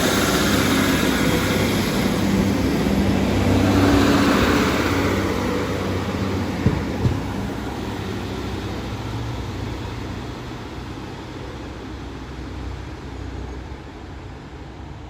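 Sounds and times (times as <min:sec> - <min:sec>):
diesel train engines rumbling: 0:00.0 - 0:15.0.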